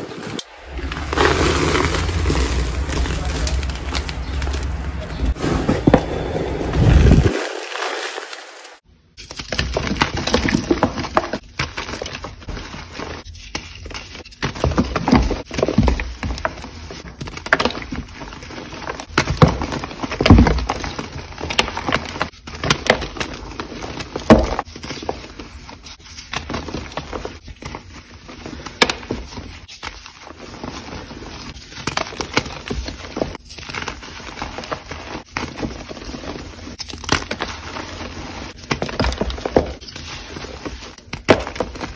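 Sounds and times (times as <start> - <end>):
chalk crunching and crumbling: 0.0 - 41.9.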